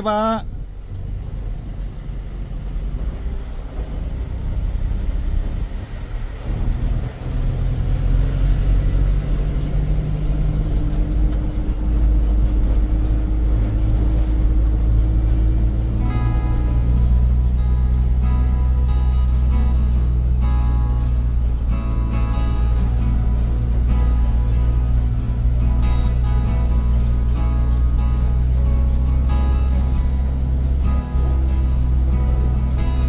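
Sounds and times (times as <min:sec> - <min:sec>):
low outdoor rumble: 0:00.0 - 0:33.0
road rumble inside cab: 0:00.0 - 0:33.0
vehicle engine running: 0:00.0 - 0:33.0.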